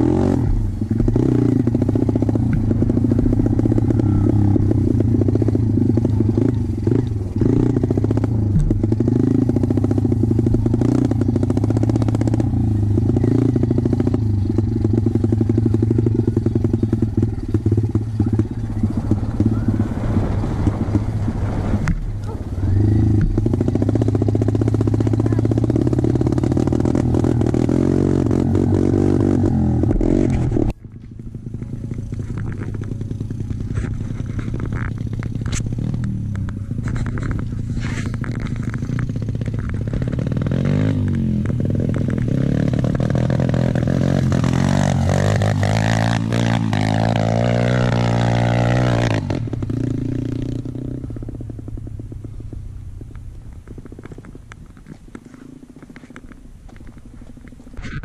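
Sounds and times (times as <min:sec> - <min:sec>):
motorbike climbing gravel hill: 0:00.0 - 0:58.0
motorcycle engine running: 0:00.0 - 0:58.0.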